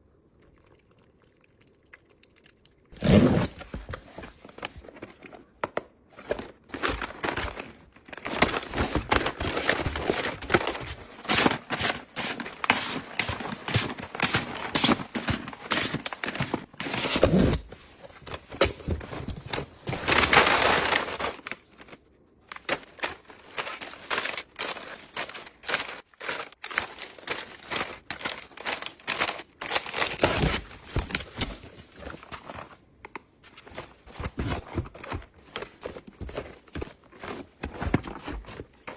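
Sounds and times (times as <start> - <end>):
packaging crinkling: 3.0 - 38.9.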